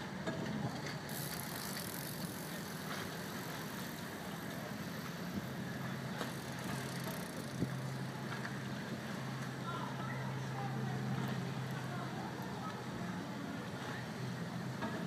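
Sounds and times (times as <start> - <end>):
wind: 0.0 - 15.0
boat engine running: 0.1 - 15.0.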